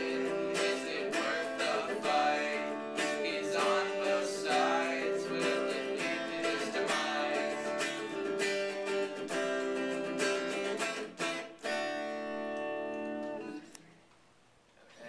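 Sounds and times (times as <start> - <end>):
electric guitar strumming chords: 0.0 - 13.6.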